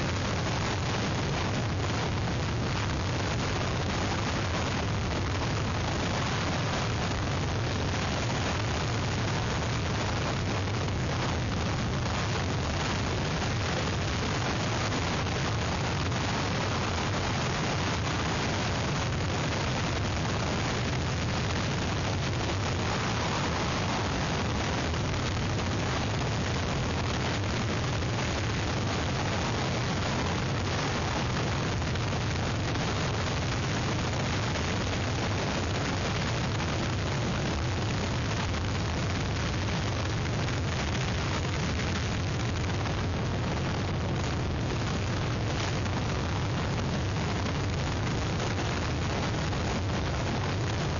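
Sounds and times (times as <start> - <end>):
hurricane wind and rain: 0.0 - 50.9.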